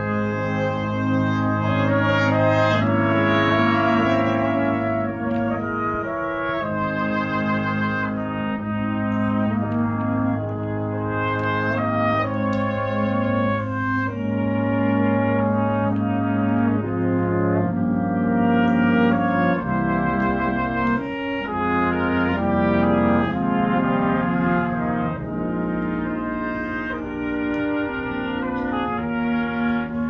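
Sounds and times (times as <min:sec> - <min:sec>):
brass ensemble playing chords: 0:00.0 - 0:30.0.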